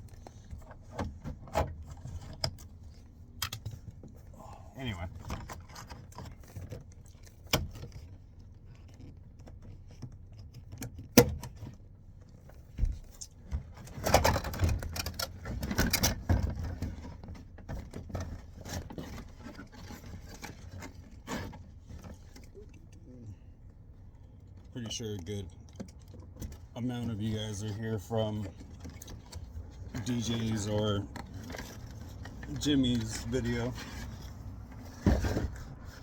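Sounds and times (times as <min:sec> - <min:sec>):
rattling and scraping: 0:00.0 - 0:11.0, 0:12.4 - 0:22.7, 0:23.9 - 0:36.0.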